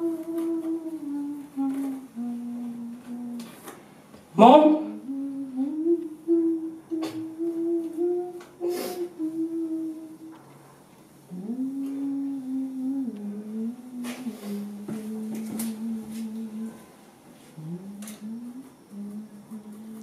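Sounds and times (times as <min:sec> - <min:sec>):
person humming a slow tune: 0:00.0 - 0:03.7, 0:04.7 - 0:10.6, 0:11.3 - 0:20.0.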